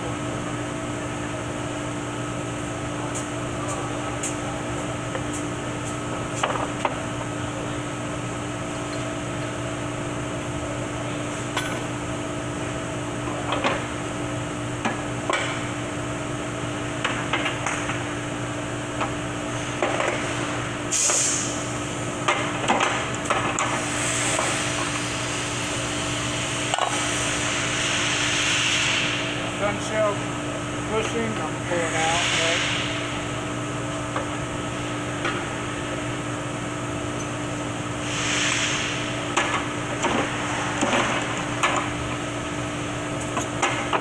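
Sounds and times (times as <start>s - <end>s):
steady shop drone: 0.0s - 44.0s.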